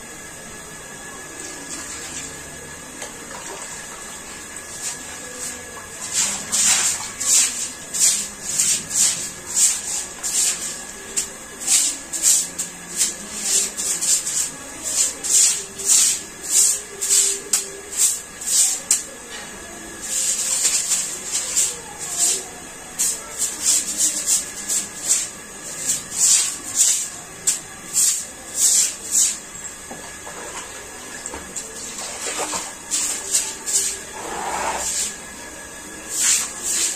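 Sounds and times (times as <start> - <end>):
broom scrubbing wet tiled floor: 1.3 - 36.9.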